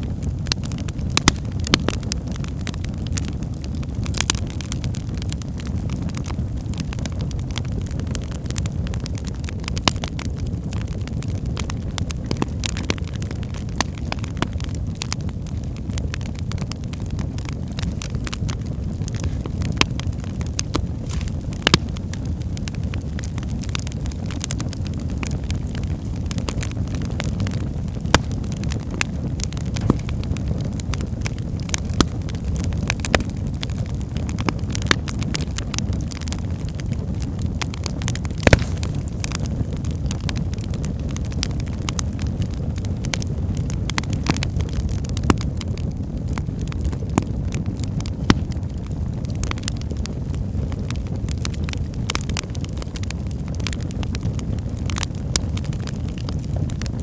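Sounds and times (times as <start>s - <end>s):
crackles and pops of burning logs: 0.0s - 57.0s
low rumble of flames: 0.0s - 57.0s.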